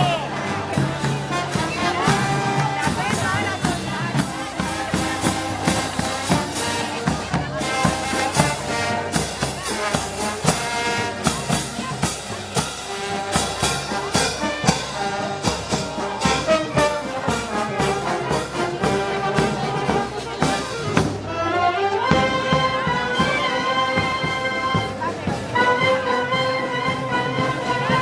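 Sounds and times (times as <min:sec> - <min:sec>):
brass band playing: 0:00.0 - 0:28.0
drums beating steadily: 0:00.0 - 0:28.0.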